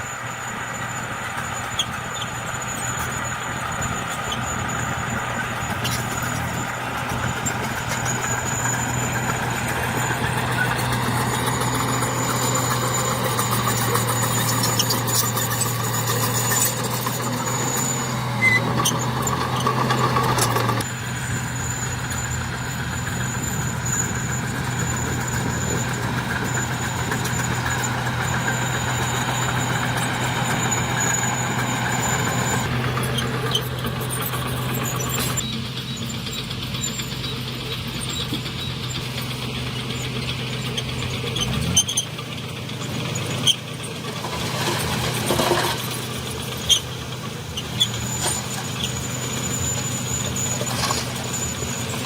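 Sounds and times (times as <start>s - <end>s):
thin high squeal: 0.0s - 42.2s, 43.0s - 52.0s
heavy machinery engine running: 0.0s - 52.0s.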